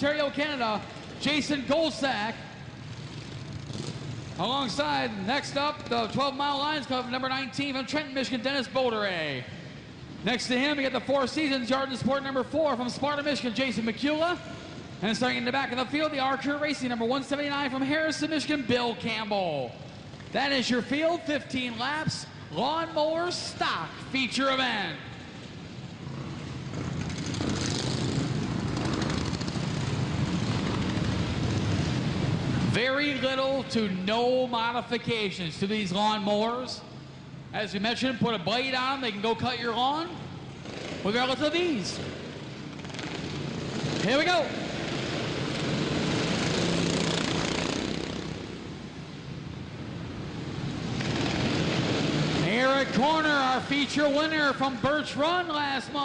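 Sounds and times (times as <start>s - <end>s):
racing lawn mower engines: 0.0s - 56.0s.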